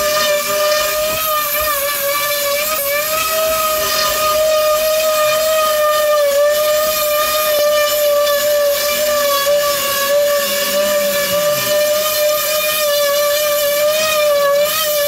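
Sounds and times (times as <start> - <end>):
small motor whining: 0.0 - 15.0.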